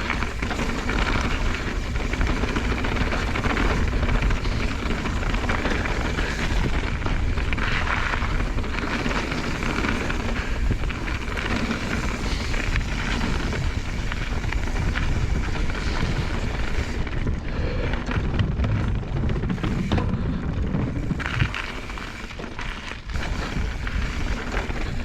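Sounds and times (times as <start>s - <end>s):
bike knocks and rattles: 0.0s - 25.0s
bike tyre noise: 0.0s - 25.0s
wind rumbling on microphone: 0.0s - 25.0s.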